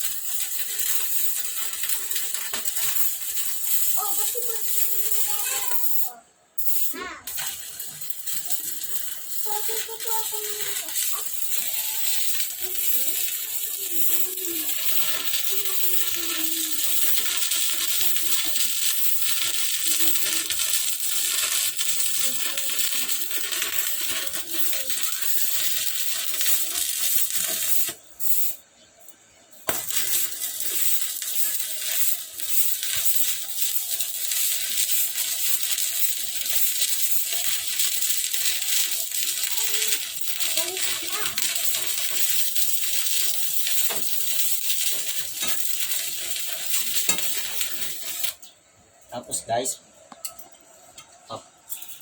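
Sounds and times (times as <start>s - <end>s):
arc welding crackling sizzle: 0.0s - 52.0s.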